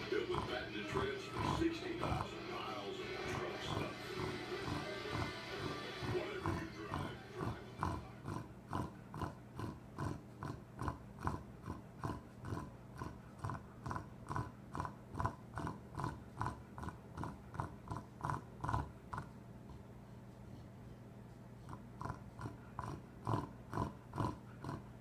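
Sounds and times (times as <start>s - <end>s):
dog snoring: 0.0s - 25.0s.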